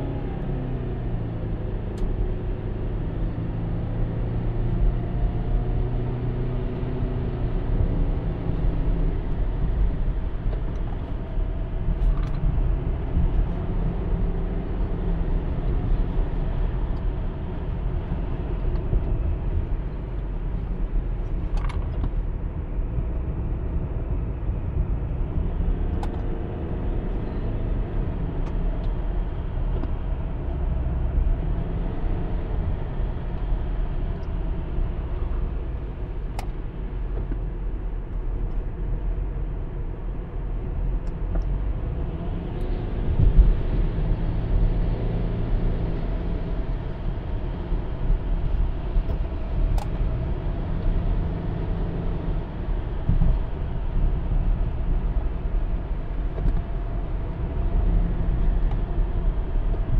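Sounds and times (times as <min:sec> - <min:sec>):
car engine drone: 0:00.0 - 0:59.9.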